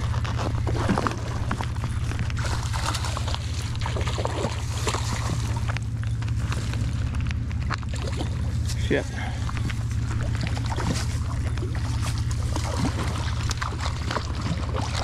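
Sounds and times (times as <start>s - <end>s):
fish splashing at the surface: 0.0s - 5.8s, 7.6s - 8.6s, 9.3s - 15.0s
low microphone rumble: 0.0s - 15.0s.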